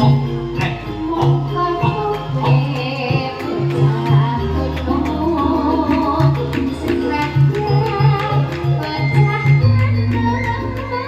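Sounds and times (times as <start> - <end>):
drum rhythm: 0.0 - 11.0
live band music: 0.0 - 11.0.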